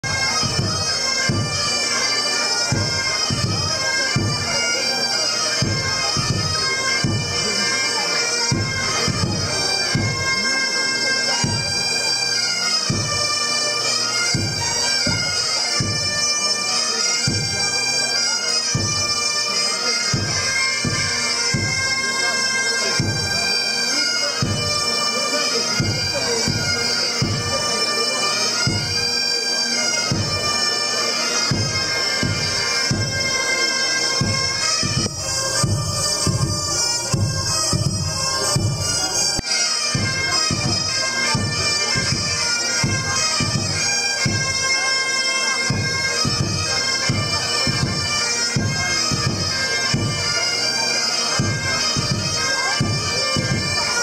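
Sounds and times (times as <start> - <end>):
bagpipes with drones: 0.0 - 54.0.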